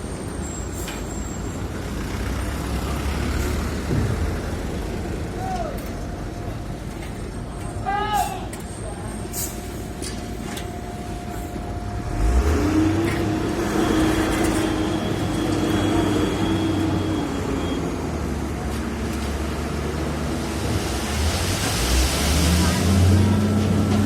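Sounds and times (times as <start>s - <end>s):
diesel machinery engine: 0.0s - 24.0s.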